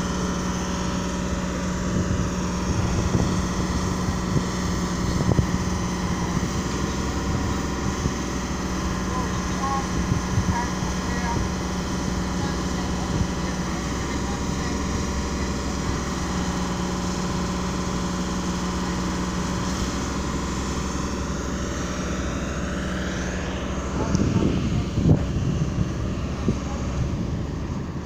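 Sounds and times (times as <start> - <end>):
engine humming steadily: 0.0 - 28.0.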